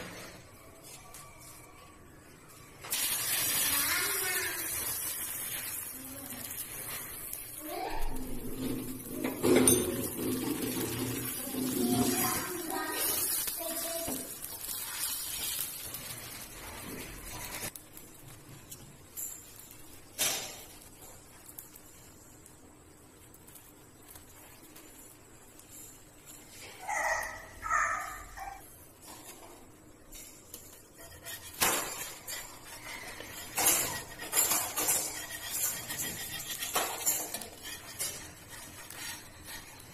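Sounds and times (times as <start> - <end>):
egg sizzling on a griddle: 2.5 - 39.9.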